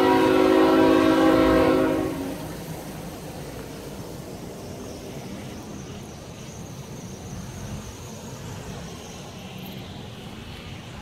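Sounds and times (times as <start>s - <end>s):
distant train locomotives rumbling: 0.0s - 11.0s.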